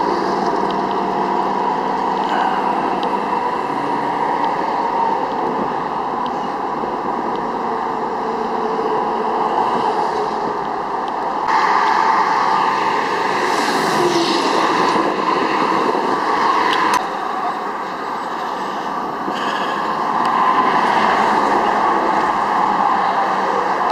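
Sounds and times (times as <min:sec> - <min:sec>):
highway traffic passing: 0:00.0 - 0:23.9.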